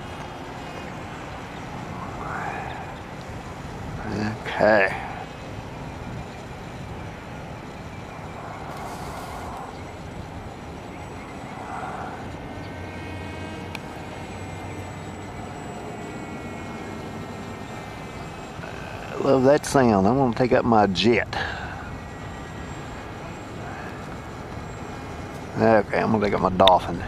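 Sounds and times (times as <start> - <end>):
model aircraft motor whining: 0.0 - 27.0.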